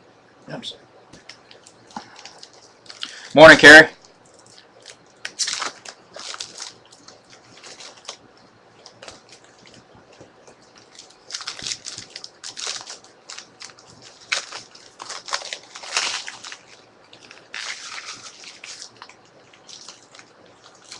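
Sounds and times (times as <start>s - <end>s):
card pack wrappers crinkling: 4.0s - 20.9s.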